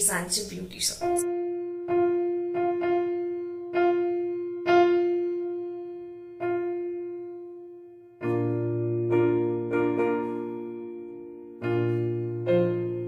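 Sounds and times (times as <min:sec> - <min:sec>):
piano note ringing: 0:01.0 - 0:13.0.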